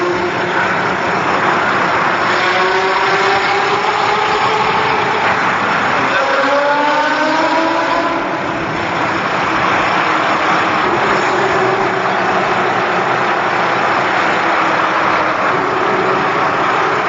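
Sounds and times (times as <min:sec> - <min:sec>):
car engine running hard: 0:00.0 - 0:17.0
wind and road noise: 0:00.0 - 0:17.0.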